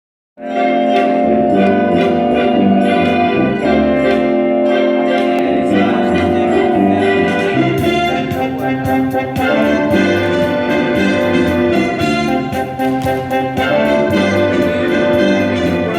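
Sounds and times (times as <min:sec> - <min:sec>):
orchestral music with brass: 0:00.4 - 0:15.9.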